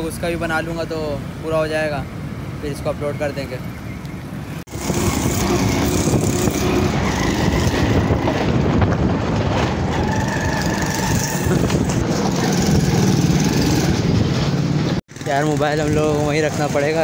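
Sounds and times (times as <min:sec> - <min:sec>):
road and wind rumble: 0:00.0 - 0:17.0.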